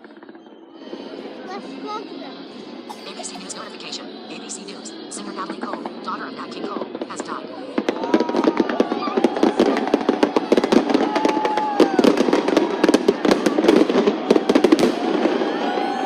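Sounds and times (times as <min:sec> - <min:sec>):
fireworks banging and crackling: 0:00.0 - 0:01.8, 0:02.6 - 0:16.0.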